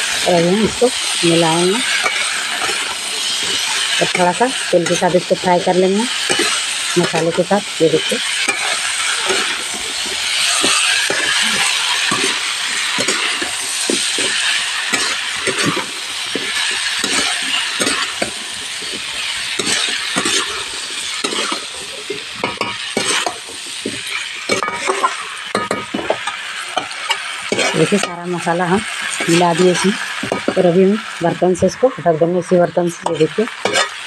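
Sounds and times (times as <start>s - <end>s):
vegetables sizzling in oil: 0.0s - 34.0s
spatula scraping and knocking pan: 1.8s - 7.6s, 8.4s - 30.7s, 33.0s - 34.0s.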